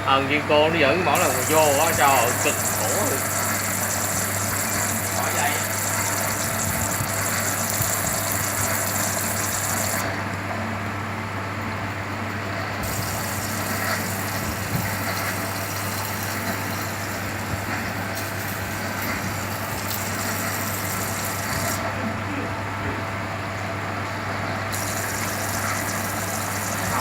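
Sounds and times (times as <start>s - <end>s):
cutting machine humming: 0.0s - 27.0s.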